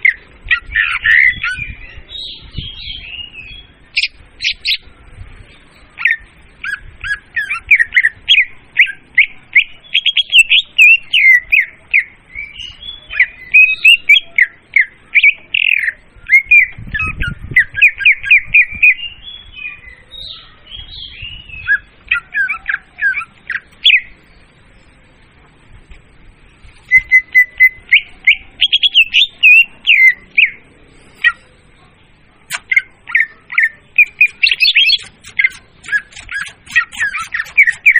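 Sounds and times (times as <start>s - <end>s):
bird chirping and whistling: 0.0s - 4.8s, 6.0s - 24.1s, 26.8s - 31.4s, 32.5s - 37.9s.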